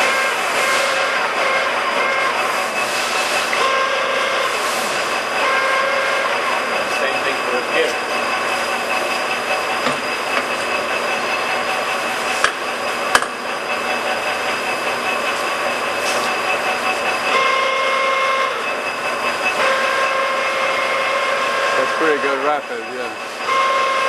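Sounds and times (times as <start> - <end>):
lathe geared whine: 0.0 - 24.0.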